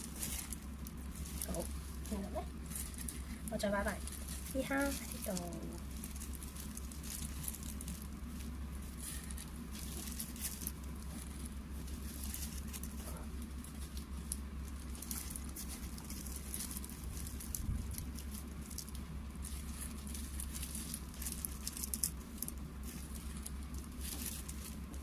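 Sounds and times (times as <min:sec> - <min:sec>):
prawns clicking and rustling: 0:00.0 - 0:25.0
steady low hum: 0:00.0 - 0:25.0.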